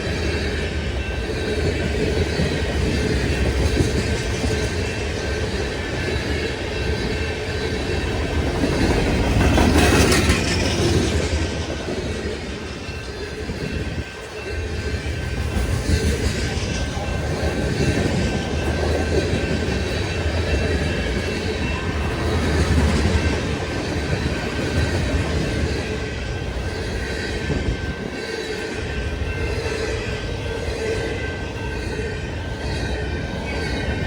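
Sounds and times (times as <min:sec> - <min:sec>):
train wheels clattering on rails: 0:00.0 - 0:34.0.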